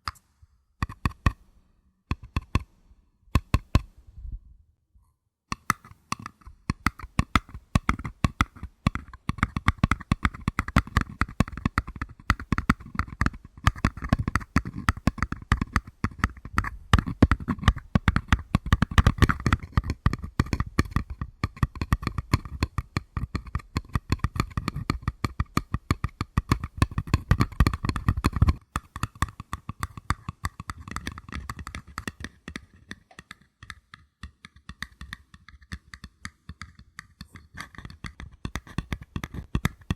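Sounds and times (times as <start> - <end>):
paper cups tapped by hand: 0.8 - 1.4, 2.1 - 2.7, 5.5 - 39.9.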